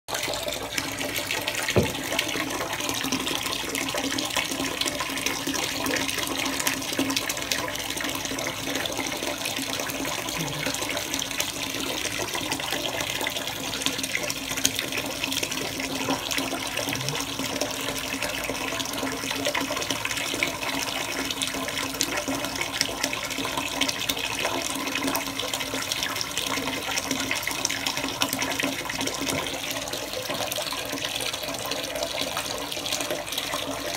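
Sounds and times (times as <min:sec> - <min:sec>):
tap water running into bathtub: 0:00.1 - 0:33.9.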